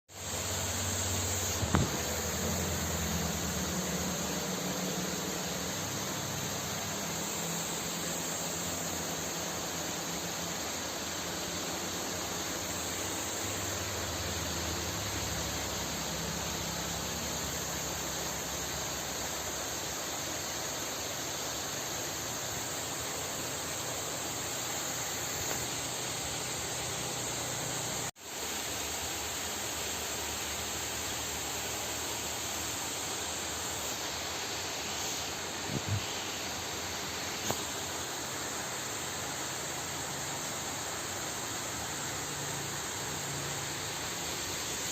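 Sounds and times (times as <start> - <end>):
steady hiss: 0.1 - 44.9.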